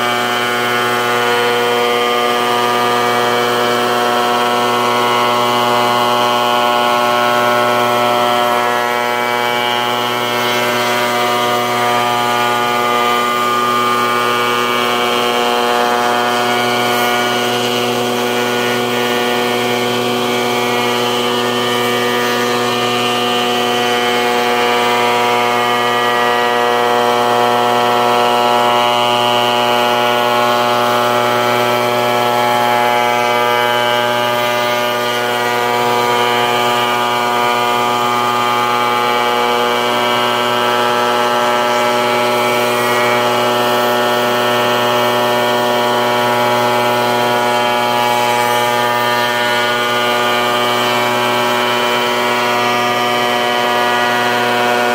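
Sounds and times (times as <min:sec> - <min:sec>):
shaper machine humming: 0:00.0 - 0:54.9.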